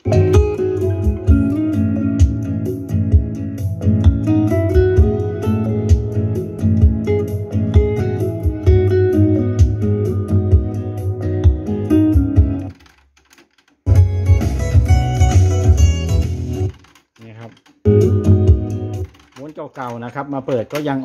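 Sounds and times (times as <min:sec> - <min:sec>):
music with steady beat: 0:00.0 - 0:12.8, 0:13.8 - 0:17.1, 0:17.7 - 0:19.4.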